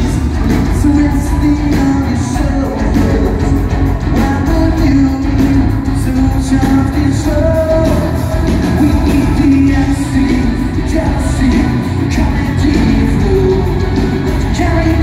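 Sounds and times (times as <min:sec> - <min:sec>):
man singing long notes: 0:00.0 - 0:15.0
rock band playing: 0:00.0 - 0:15.0.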